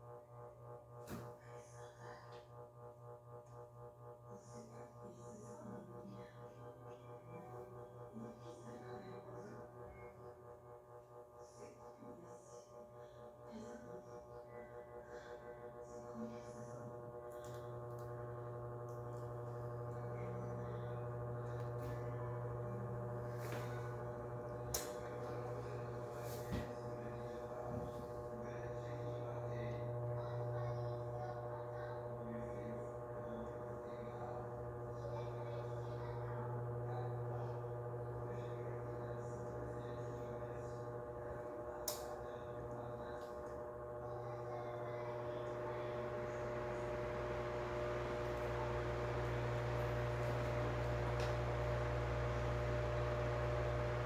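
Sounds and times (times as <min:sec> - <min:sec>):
electric fan motor hum: 0:00.0 - 0:54.0.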